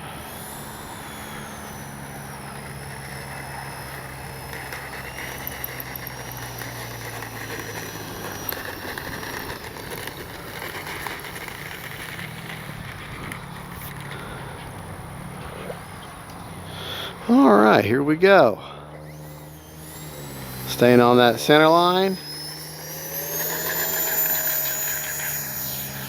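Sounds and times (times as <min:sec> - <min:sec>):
electric ducted fan whine: 0:00.0 - 0:26.0
steady low hum: 0:00.0 - 0:26.0.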